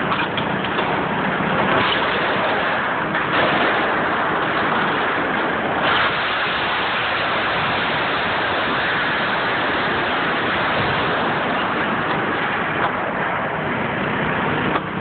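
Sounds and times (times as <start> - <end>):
building collapsing debris crash: 0.0 - 15.0.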